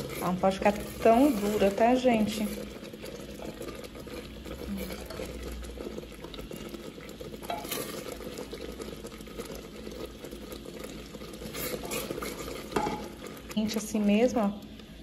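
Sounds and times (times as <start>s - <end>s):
wooden spoon stirring and scraping: 0.0s - 14.5s
thick mixture bubbling in a pot: 0.0s - 15.0s.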